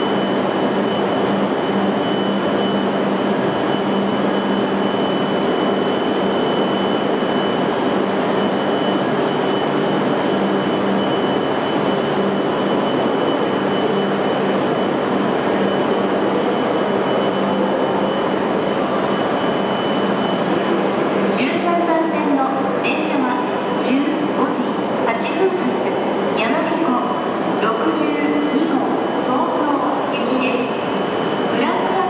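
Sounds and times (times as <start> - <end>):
thin high whine: 0.0 - 32.0
train equipment humming: 0.0 - 32.0.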